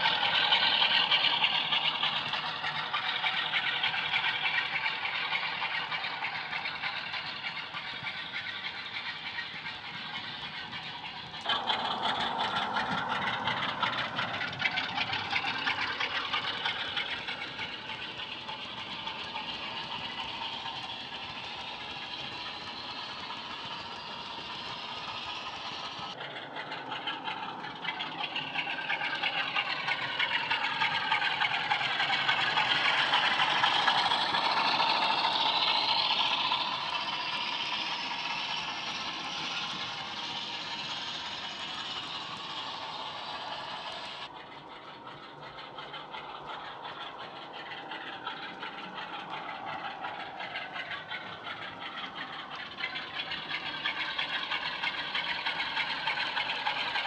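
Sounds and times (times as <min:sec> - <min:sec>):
diesel engine running: 0:00.0 - 0:57.0
model train wheels rattling on track: 0:00.0 - 0:57.0.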